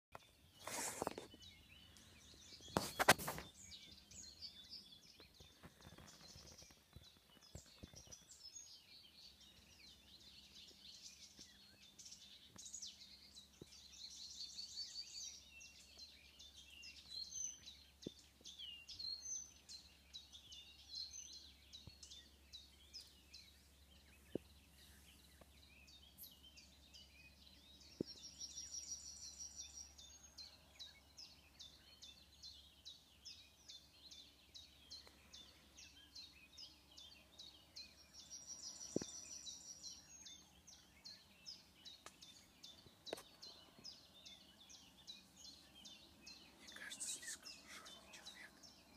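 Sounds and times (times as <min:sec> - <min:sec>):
scattered bird calls: 0:00.2 - 0:48.9.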